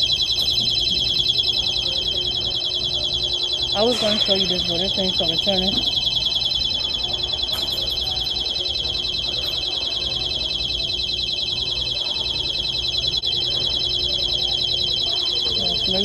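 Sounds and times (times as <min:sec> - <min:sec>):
warbling anti-theft alarm: 0:00.0 - 0:16.0.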